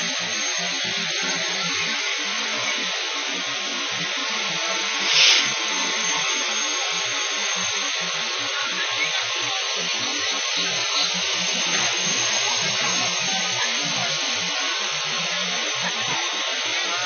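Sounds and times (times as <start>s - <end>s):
fire engine pump hiss and drone: 0.0s - 17.0s.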